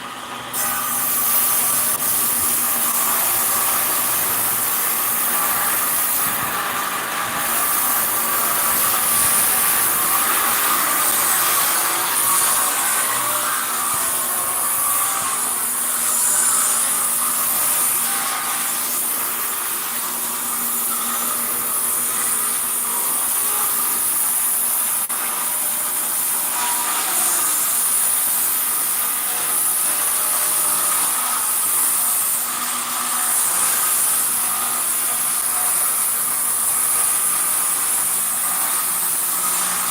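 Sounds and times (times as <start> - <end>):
woodworking power tool running: 0.0 - 39.9.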